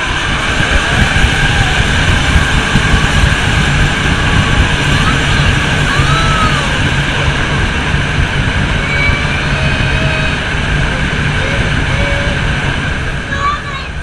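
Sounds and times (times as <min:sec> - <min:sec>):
faint voices calling out: 0:00.0 - 0:14.0
fans blasting wind over microphone: 0:00.0 - 0:14.0.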